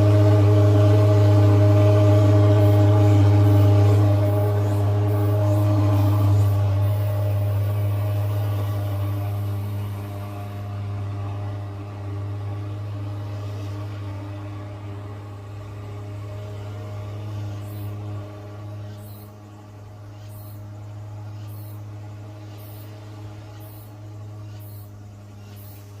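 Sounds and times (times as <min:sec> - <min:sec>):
fogging truck drone: 0:00.0 - 0:26.0.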